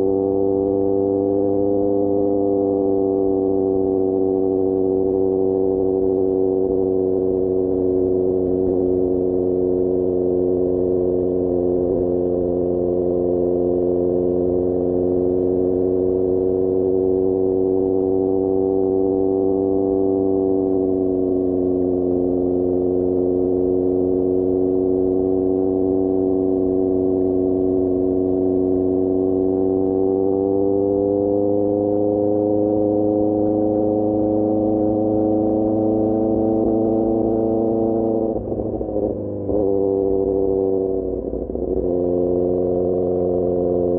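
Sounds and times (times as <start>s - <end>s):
motorcycle engine cruising: 0.0s - 43.9s.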